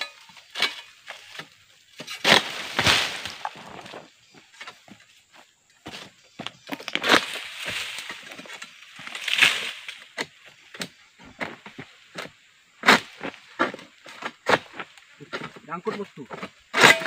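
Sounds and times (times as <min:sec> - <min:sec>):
palm leaves rustling: 0:00.0 - 0:17.0
sickle chopping wood: 0:00.1 - 0:04.0, 0:06.7 - 0:17.0.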